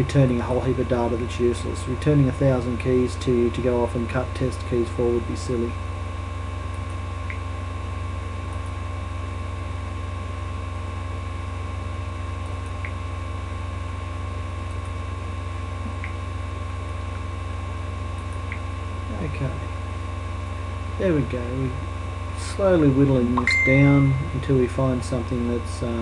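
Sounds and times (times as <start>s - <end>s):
low electrical hum: 0.0s - 26.0s
thin steady whine: 0.0s - 26.0s.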